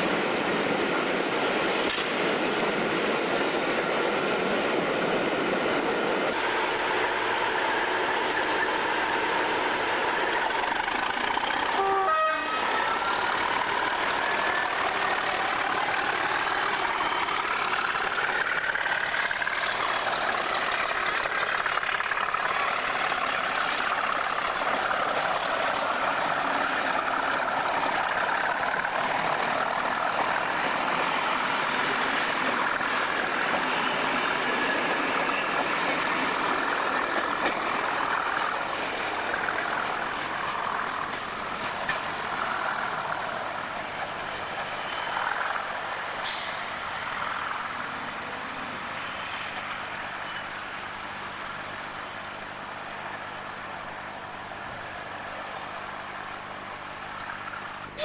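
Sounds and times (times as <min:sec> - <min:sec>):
diesel locomotive passing: 0:00.0 - 0:58.0.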